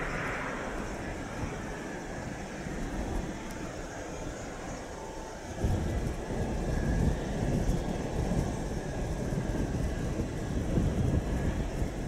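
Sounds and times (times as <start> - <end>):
gusty wind buffeting microphone: 0.0 - 12.0
jet engines rumbling: 0.0 - 12.0.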